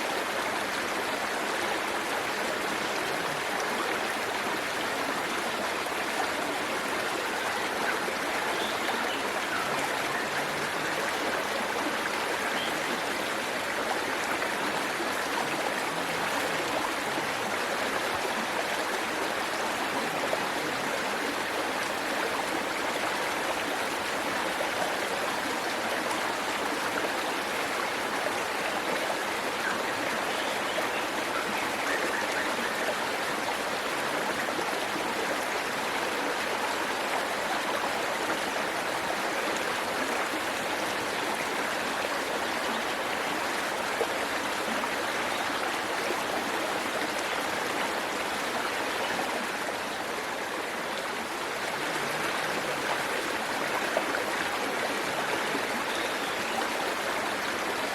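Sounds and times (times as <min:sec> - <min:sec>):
waterfall and stream rushing: 0:00.0 - 0:57.9.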